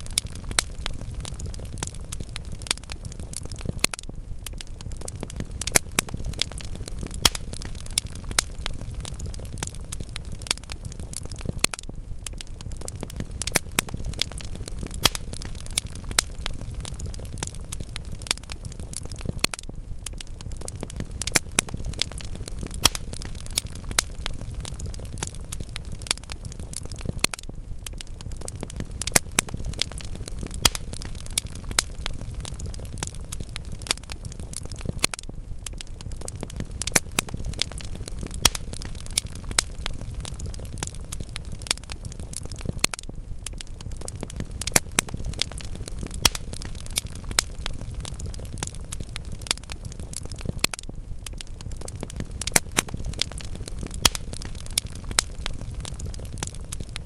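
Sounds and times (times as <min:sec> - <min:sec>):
burning logs popping and snapping: 0:00.0 - 0:57.0
low rumble of flame: 0:00.0 - 0:57.0
wood fire crackling: 0:00.0 - 0:57.0.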